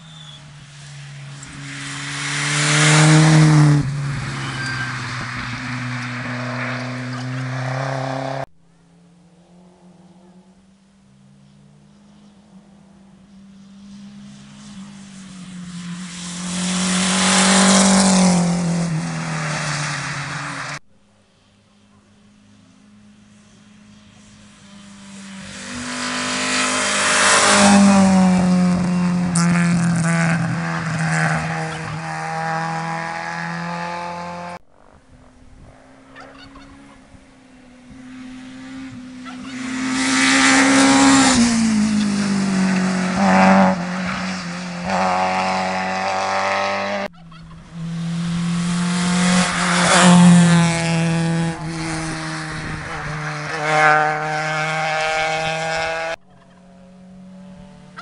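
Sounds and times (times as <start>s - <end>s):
rally cars passing at speed: 0.0s - 20.8s, 22.3s - 58.0s.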